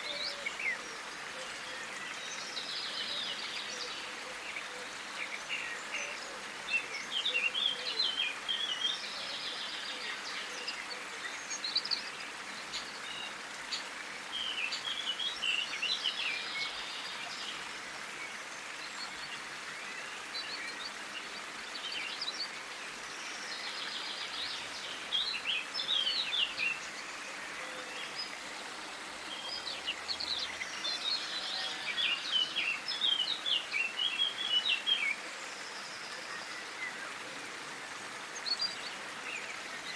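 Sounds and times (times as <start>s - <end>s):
small songbirds twittering: 0.0s - 39.9s
steady background hiss: 0.0s - 39.9s.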